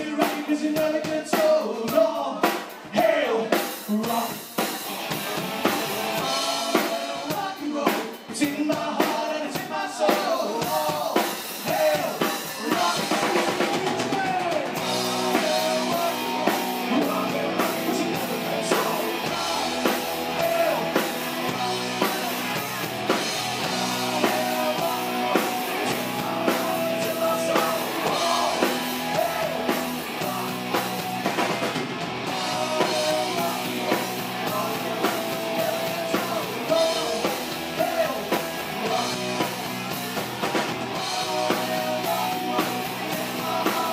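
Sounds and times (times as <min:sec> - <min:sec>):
man singing into a microphone: 0:00.0 - 0:04.6, 0:06.2 - 0:31.0, 0:32.3 - 0:40.2, 0:41.0 - 0:43.9
drum kit: 0:00.0 - 0:43.9
bass guitar: 0:03.9 - 0:07.8, 0:11.7 - 0:43.9
electric guitars: 0:03.9 - 0:08.9, 0:10.6 - 0:43.9.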